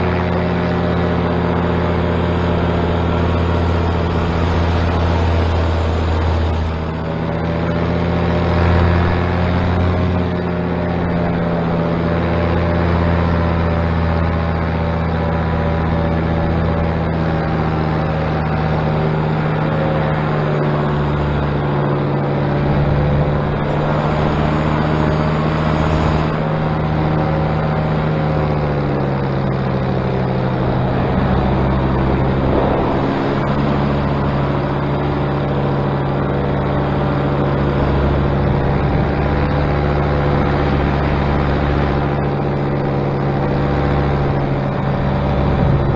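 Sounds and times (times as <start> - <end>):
paramotor engine running: 0.0 - 45.9
propeller humming: 0.0 - 45.9.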